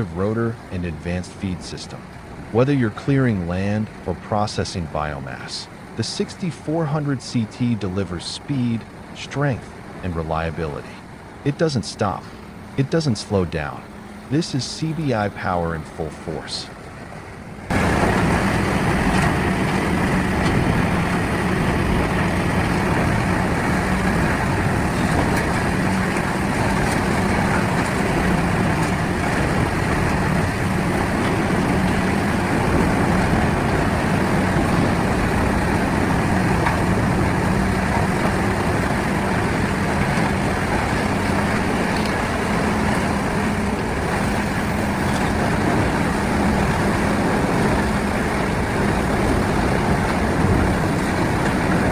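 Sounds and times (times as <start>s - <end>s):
low hum: 0.0s - 51.9s.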